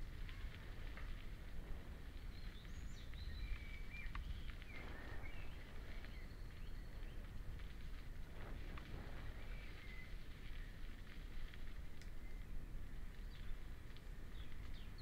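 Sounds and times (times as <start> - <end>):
bike tyres rumbling on dirt: 0.0 - 15.0
small birds chirping: 0.0 - 15.0
wind on microphone: 0.0 - 15.0.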